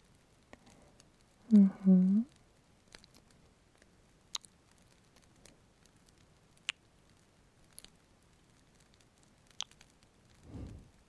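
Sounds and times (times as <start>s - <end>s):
faint fireplace crackle: 0.0s - 11.0s.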